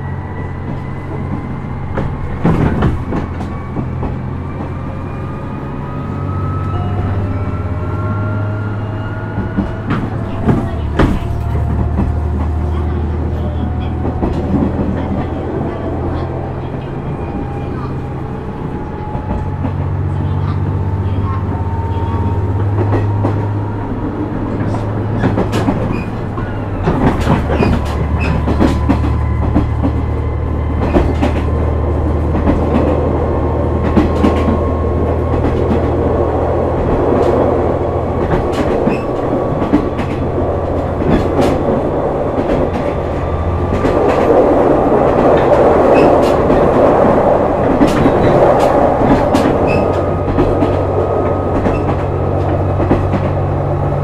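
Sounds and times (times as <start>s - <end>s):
rail joint clicks: 0.0s - 54.0s.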